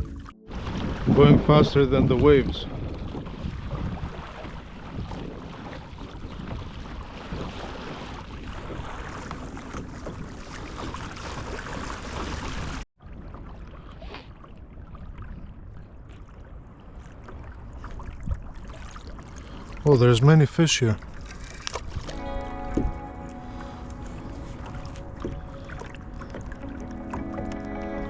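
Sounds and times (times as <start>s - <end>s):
wind on microphone: 0.0s - 12.8s, 13.4s - 19.2s, 21.1s - 28.0s
water rushing past kayak hull: 0.0s - 28.0s.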